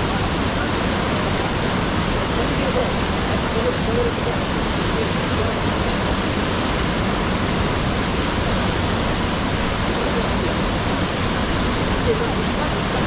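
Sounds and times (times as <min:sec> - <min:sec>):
large waterfall rushing: 0:00.0 - 0:13.0.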